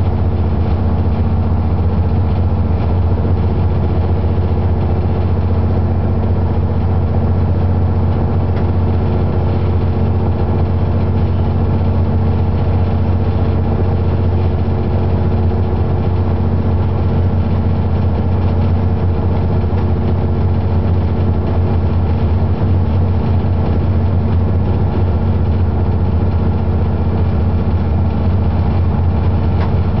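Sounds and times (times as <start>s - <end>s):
train cab hum and rumble: 0.0s - 30.0s.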